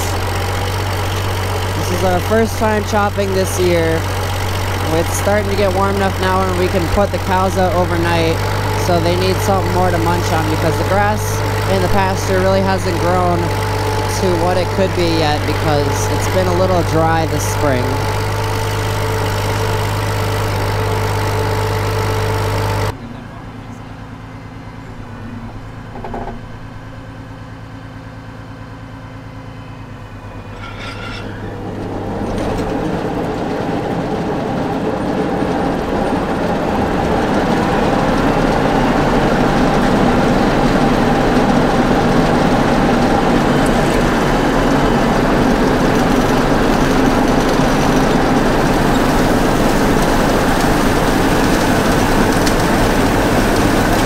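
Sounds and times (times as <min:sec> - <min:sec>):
forage chopper running: 0:00.0 - 0:54.0
tractor engine idling: 0:00.0 - 0:54.0.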